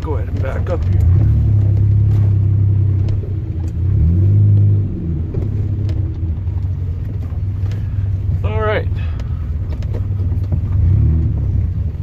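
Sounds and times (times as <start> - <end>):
car engine running while reversing: 0.0 - 12.0.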